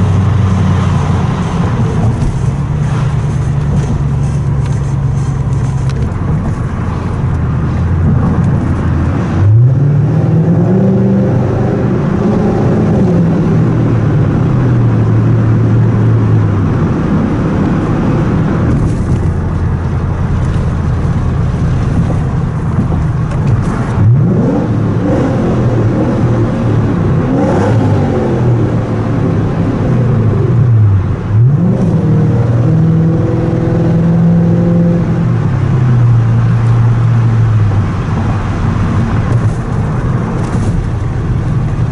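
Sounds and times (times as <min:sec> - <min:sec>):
car engine revving in a tunnel: 0:00.0 - 0:41.9.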